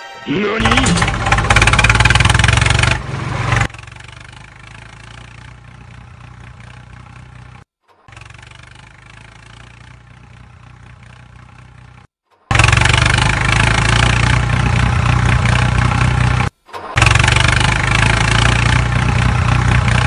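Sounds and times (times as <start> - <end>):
engine running: 0.6 - 20.0.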